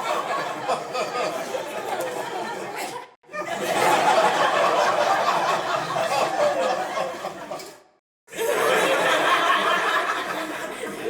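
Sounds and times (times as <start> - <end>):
crowd laughing: 0.0 - 11.0.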